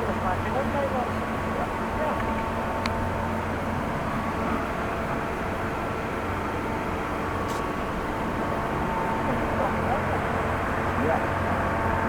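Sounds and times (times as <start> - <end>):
engine rumble: 0.0 - 12.0
faint constant hum: 0.0 - 12.0.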